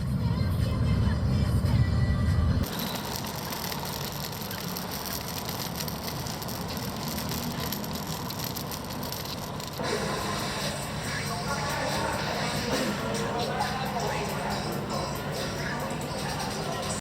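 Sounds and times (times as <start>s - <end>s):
steady machine noise: 2.5s - 17.0s.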